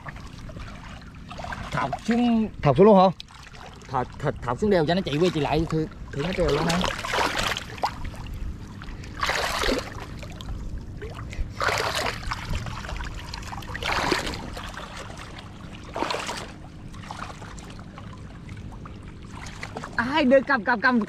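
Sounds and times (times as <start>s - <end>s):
seawater sloshing and splashing: 0.0s - 21.0s.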